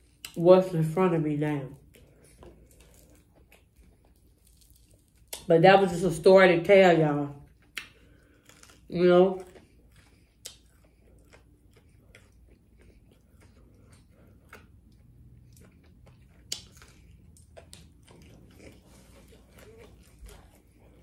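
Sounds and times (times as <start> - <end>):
quiet chewing: 1.7 - 5.5, 7.4 - 21.0.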